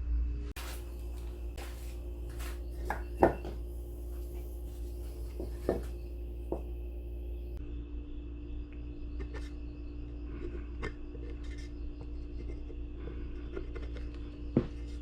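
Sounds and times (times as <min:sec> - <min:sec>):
steady low hum: 0:00.3 - 0:15.0.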